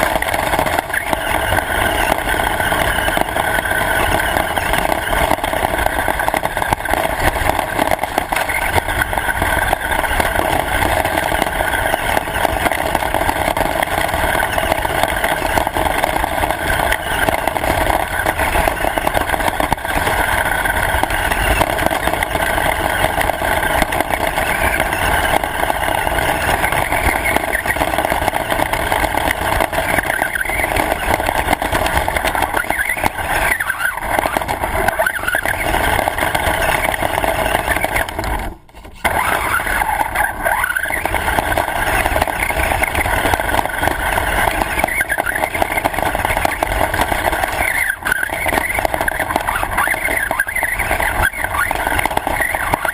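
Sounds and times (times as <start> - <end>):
radio-controlled car motor running: 0.0 - 52.9.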